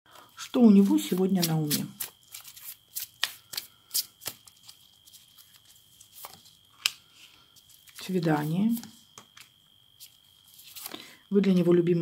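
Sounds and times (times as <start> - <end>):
cards being shuffled: 0.4 - 11.0.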